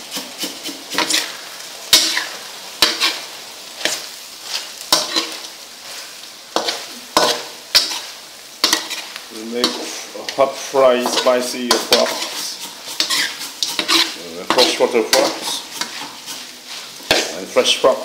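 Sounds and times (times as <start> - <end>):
metal spatula scraping a wok: 0.0 - 17.9
meat sizzling in hot oil: 0.0 - 18.0.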